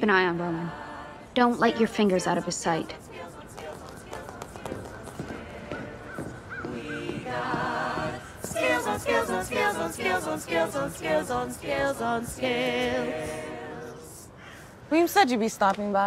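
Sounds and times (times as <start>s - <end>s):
choir singing a cappella: 0.1s - 14.5s.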